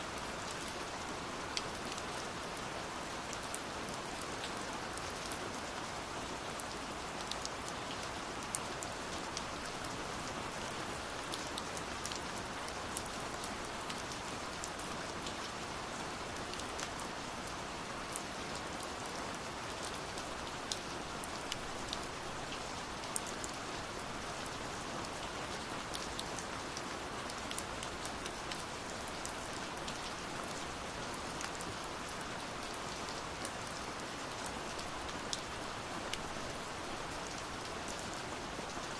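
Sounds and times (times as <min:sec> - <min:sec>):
steady rainfall: 0:00.0 - 0:38.9
raindrops pattering on surface: 0:00.1 - 0:38.9.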